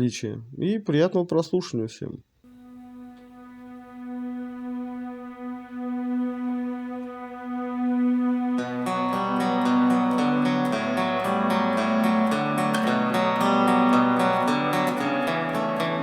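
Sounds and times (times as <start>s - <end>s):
held musical note: 2.5s - 16.0s
plucked guitar notes: 2.5s - 16.0s.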